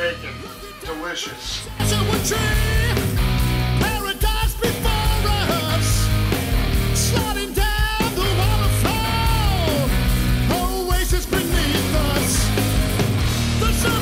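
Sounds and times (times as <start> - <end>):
rock music: 0.0 - 14.0
person singing: 0.2 - 3.2, 3.8 - 6.2, 6.9 - 12.5, 13.6 - 14.0
steady bass line: 1.7 - 14.0.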